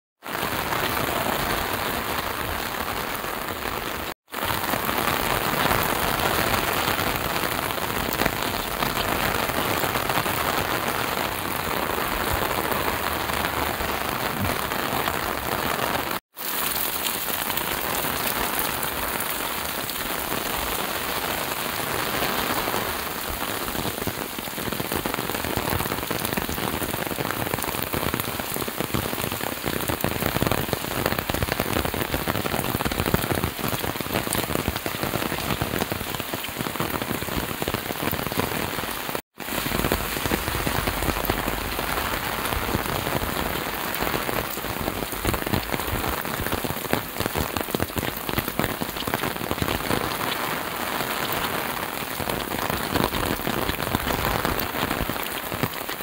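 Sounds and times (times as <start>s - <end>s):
heavy rain on pavement and cars: 0.2s - 56.0s.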